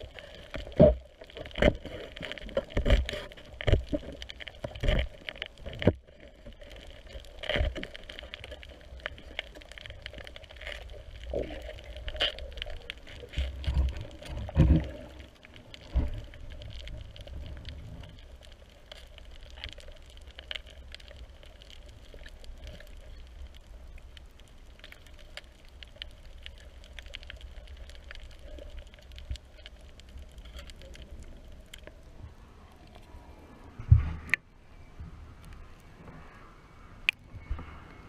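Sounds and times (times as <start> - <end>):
faint crackling clicks: 0.0 - 34.5, 35.3 - 38.0
water moving underwater: 0.0 - 38.0.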